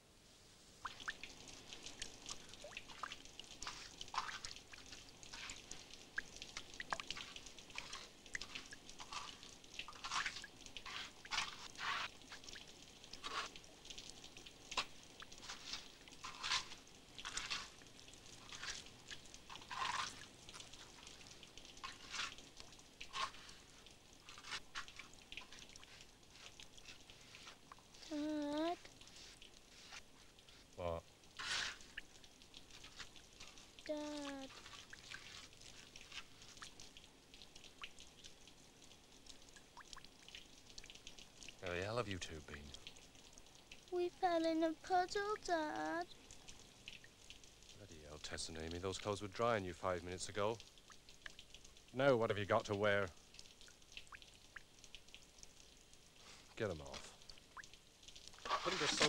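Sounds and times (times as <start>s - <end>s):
water dripping into a bucket: 0.8s - 59.0s.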